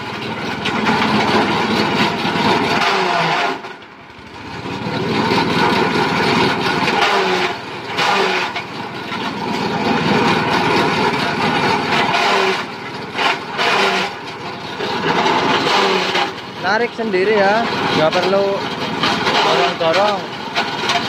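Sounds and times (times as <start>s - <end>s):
forage chopper shredding branches: 0.0s - 21.0s.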